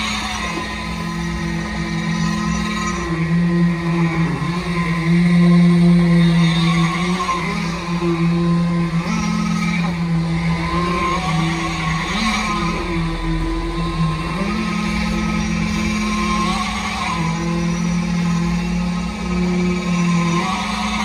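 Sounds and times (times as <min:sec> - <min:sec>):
concrete vibrator motor hum: 0:00.0 - 0:21.0.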